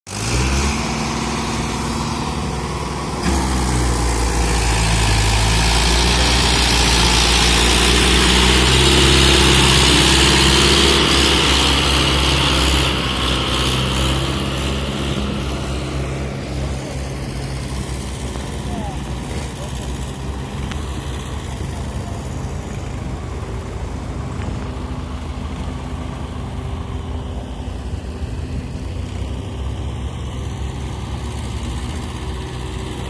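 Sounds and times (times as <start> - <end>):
diesel tractor engine under load: 0.1 - 33.0.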